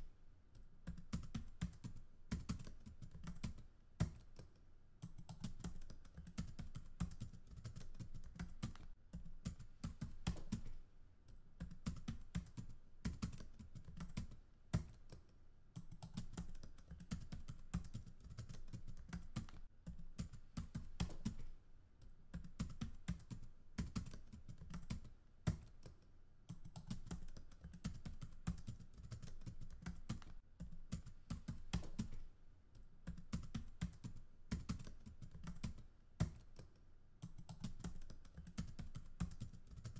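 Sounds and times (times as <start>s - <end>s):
typing on computer keyboard: 0.6s - 39.9s.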